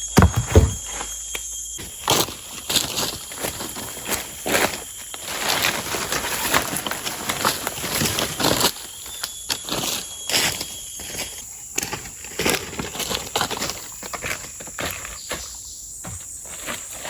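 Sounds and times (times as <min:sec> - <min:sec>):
high-pitched insect hum: 0:00.0 - 0:17.0
crunching of dry leaves and sticks: 0:01.8 - 0:17.0.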